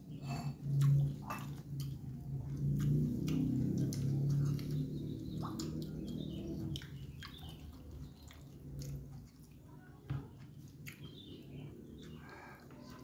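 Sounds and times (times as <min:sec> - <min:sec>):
man chewing food: 0:00.0 - 0:13.0.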